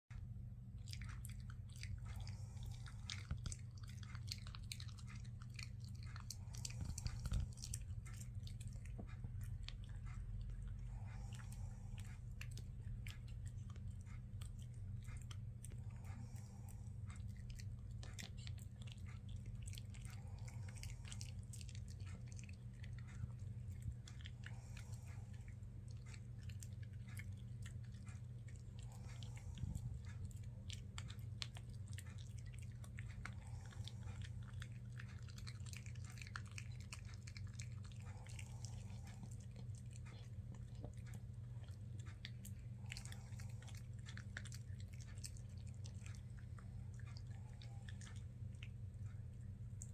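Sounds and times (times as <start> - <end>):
low hum: 0.1 - 49.9
dog gnawing chew: 0.6 - 49.9.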